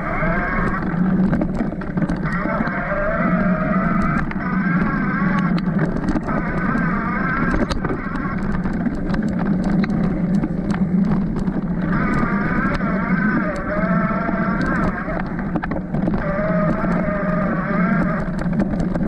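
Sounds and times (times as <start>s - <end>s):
bike clicks and rattles: 0.0s - 19.0s
electric bike motor whining: 0.0s - 19.0s.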